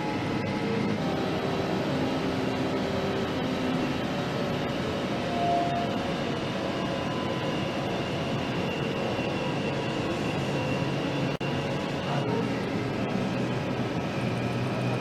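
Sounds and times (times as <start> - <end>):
factory machinery hum: 0.0 - 15.0.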